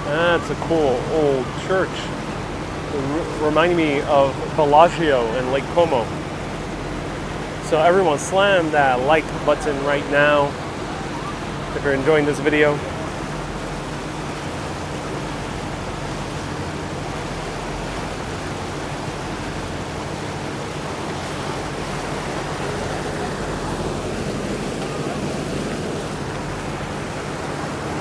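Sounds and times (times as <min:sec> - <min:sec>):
boat engine hum: 0:00.0 - 0:28.0
wind and water rushing: 0:00.0 - 0:28.0.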